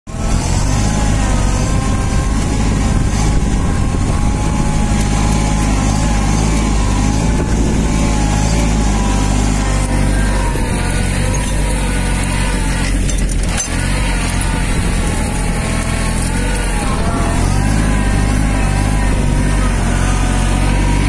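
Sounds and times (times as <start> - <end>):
tractor diesel engine running: 0.1 - 21.0.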